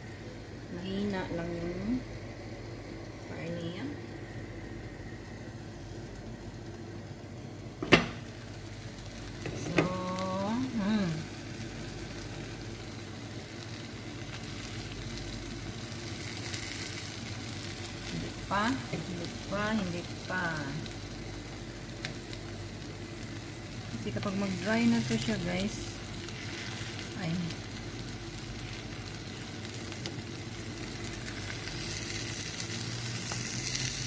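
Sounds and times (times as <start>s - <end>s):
eggs sizzling in a pan: 0.0s - 34.0s.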